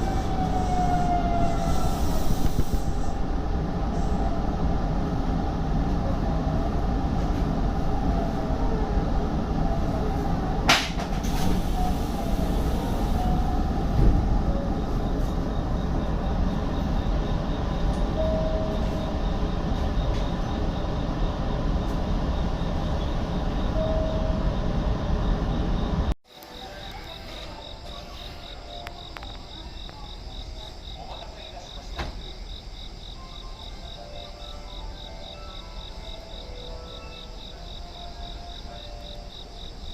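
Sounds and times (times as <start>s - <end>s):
train wheels rumbling on rail: 0.0s - 34.3s.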